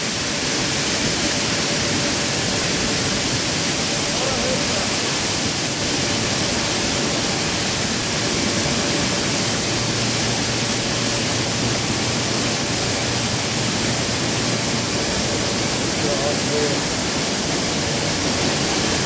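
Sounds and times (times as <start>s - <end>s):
large fire roaring: 1.1s - 19.0s.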